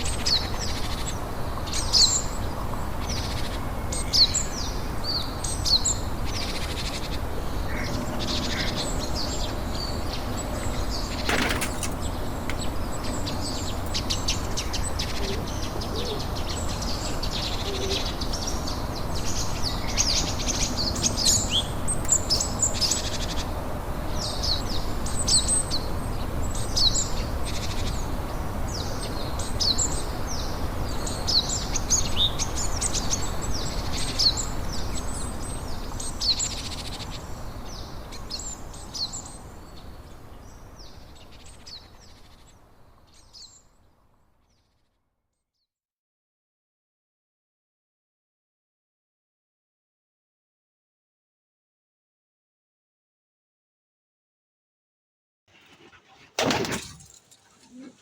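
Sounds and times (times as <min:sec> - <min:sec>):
small birds chirping: 0:00.0 - 0:44.8, 0:55.5 - 0:58.0.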